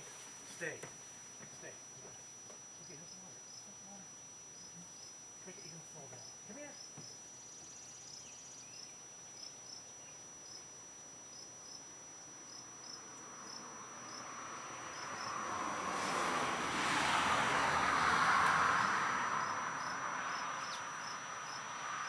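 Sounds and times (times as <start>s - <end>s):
insects chirping: 0.0s - 22.0s
steady high insect trill: 0.0s - 22.0s.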